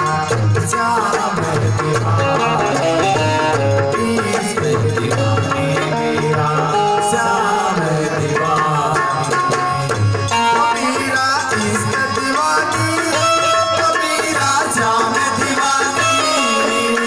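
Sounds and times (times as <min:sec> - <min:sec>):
dholak drum rhythm: 0:00.0 - 0:17.0
harmonium melody: 0:00.0 - 0:17.0.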